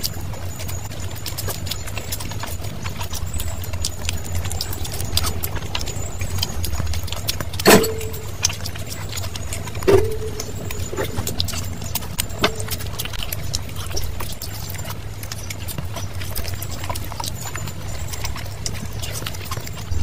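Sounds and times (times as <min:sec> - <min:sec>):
low hum: 0:00.0 - 0:20.0
wet chewing and smacking: 0:00.0 - 0:20.0.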